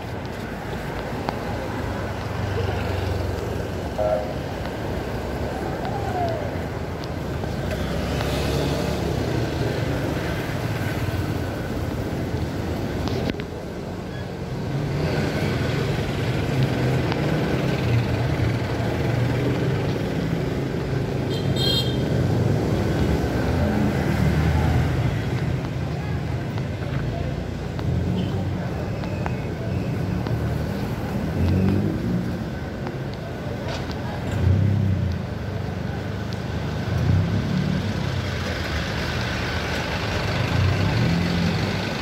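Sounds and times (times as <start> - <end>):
street traffic: 0.0 - 42.0.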